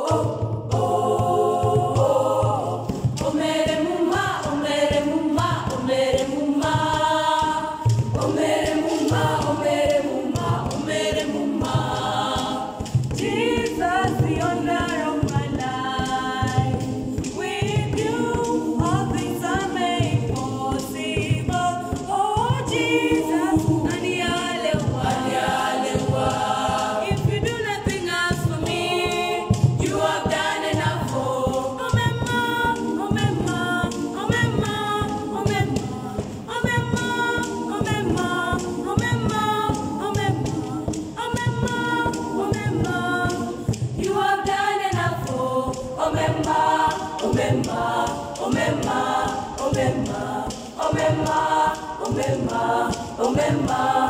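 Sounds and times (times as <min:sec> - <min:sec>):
girls' choir singing a cappella: 0:00.0 - 0:54.0.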